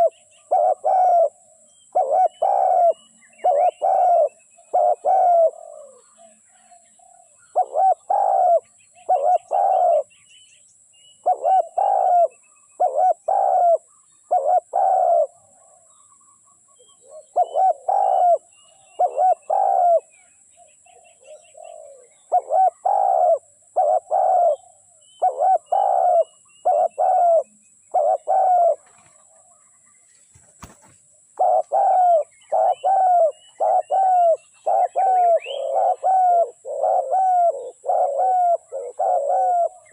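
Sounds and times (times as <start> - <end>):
dove cooing: 0.0 - 10.1, 11.2 - 29.7, 30.6 - 39.9
small birds chirping faintly: 0.0 - 39.9.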